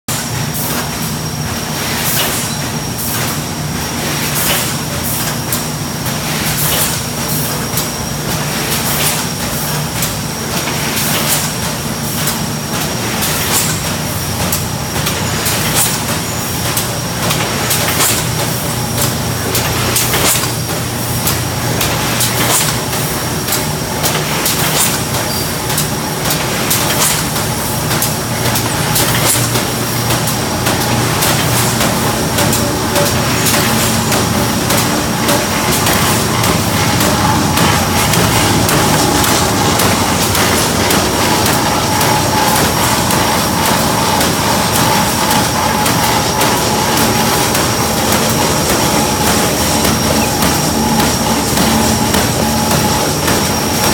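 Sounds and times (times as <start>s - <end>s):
machine drone with hum and whine: 0.1s - 53.9s
machine clicks: 10.0s - 53.9s.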